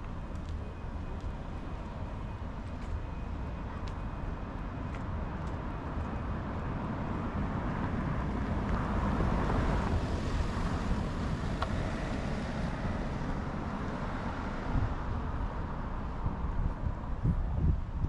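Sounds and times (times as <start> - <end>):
hum of passing traffic: 0.0 - 18.0.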